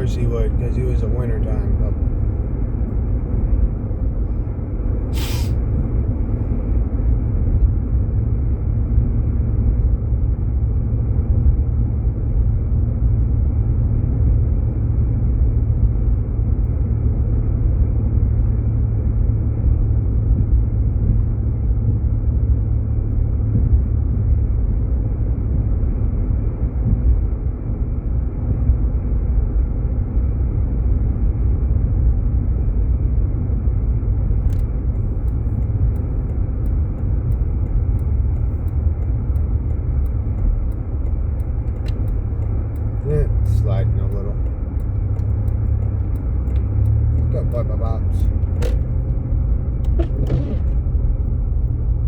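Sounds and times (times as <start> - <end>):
road and engine rumble: 0.0 - 52.0.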